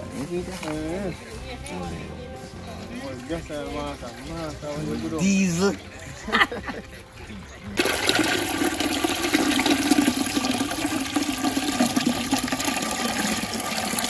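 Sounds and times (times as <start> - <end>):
juice pouring and splashing: 2.7 - 14.0.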